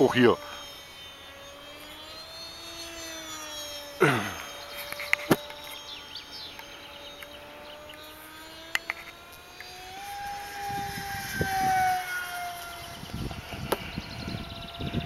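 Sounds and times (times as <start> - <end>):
model plane propeller whining: 0.0 - 15.0.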